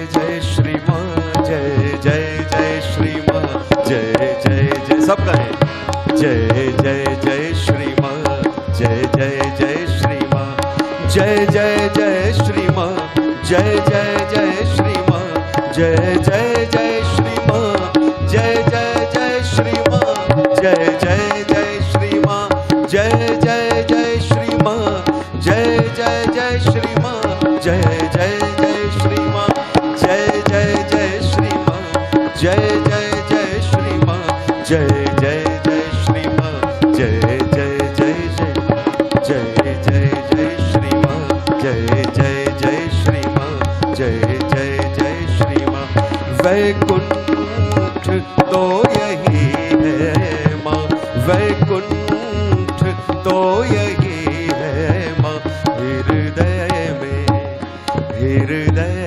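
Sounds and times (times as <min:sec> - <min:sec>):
harmonium melody: 0:00.0 - 0:59.0
tabla and dholak drumming: 0:00.0 - 0:59.0.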